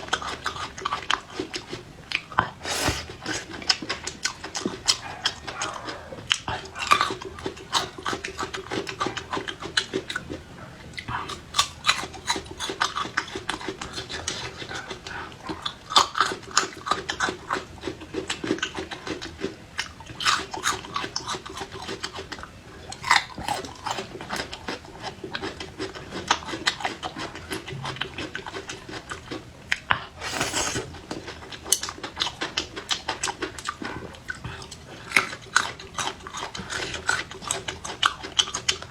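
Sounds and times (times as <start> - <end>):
crunching and chewing: 0.0 - 38.9
faint low hum: 0.0 - 38.9.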